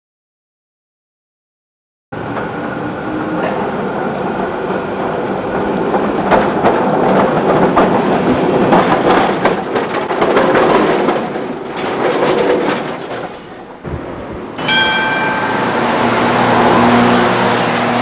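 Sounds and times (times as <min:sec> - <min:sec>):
tram wheels rattling and grinding: 0:02.2 - 0:18.0.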